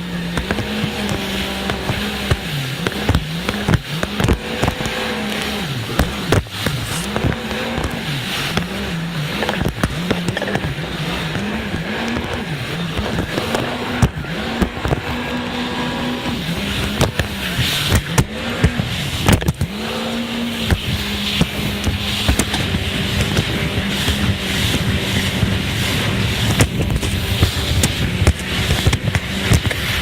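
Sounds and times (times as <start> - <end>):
jet ski engine revving: 0.0 - 30.0.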